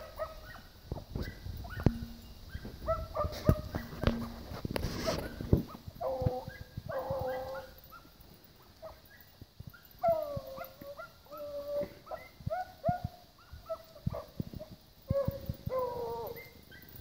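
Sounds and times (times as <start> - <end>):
dogs barking: 0.0 - 4.4, 5.0 - 17.0
hounds howling bays: 0.0 - 17.0.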